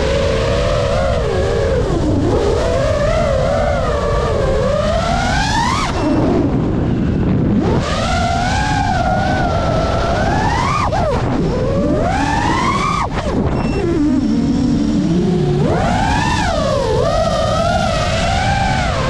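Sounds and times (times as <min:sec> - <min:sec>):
drone motors whining: 0:00.0 - 0:19.0
rush of air noise: 0:00.0 - 0:19.0.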